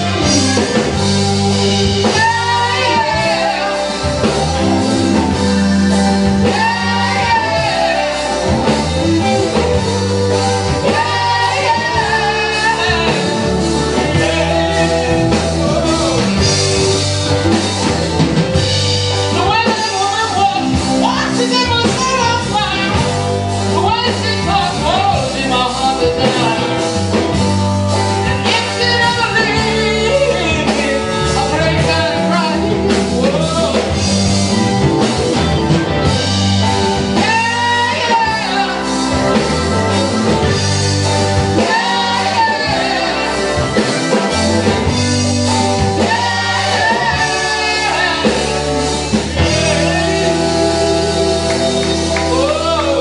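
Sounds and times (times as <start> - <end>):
lead vocal singing: 0.0 - 53.0
rhythm and blues band playing: 0.0 - 53.0.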